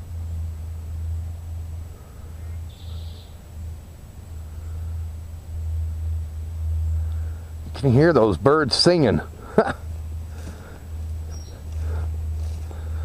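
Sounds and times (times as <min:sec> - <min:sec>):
songbird trill: 0:00.0 - 0:13.0
steady low rumble: 0:00.0 - 0:13.0.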